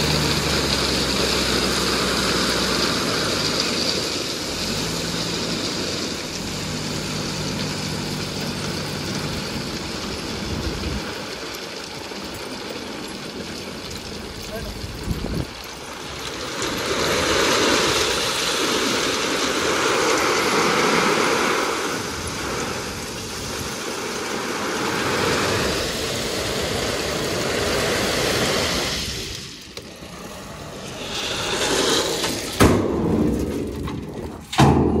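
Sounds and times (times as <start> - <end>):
crushed stone pouring out: 0.0 - 35.0
diesel truck engine running: 0.0 - 35.0.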